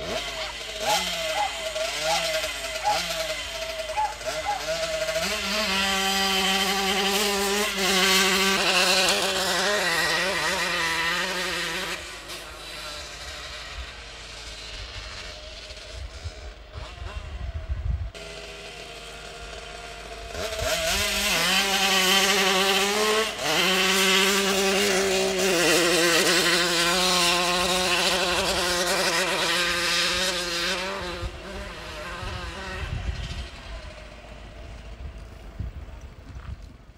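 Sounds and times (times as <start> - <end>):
moped engine buzzing at full throttle: 0.0 - 36.9.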